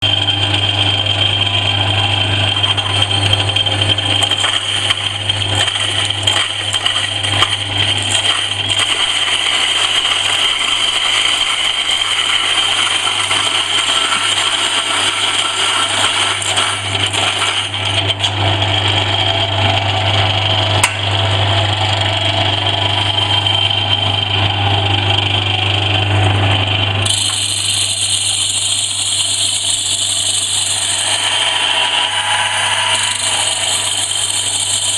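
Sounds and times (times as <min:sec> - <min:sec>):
grain grinder running: 0:00.0 - 0:34.9.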